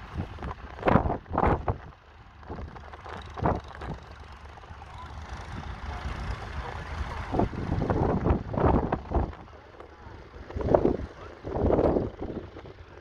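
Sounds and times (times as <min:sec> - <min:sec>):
wind buffeting microphone: 0:00.0 - 0:04.1, 0:05.4 - 0:13.0
tractor engine under load: 0:00.0 - 0:13.0.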